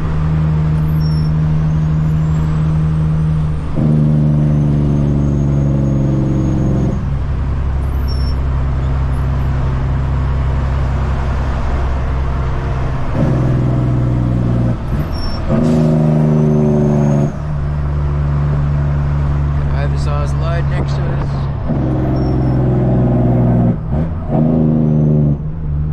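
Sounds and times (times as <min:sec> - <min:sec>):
diesel truck engine droning: 0:00.0 - 0:25.9.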